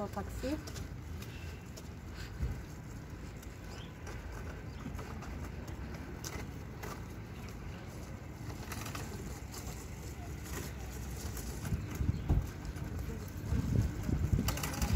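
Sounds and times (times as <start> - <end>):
cart wheels rumbling on pavement: 0.0 - 14.9.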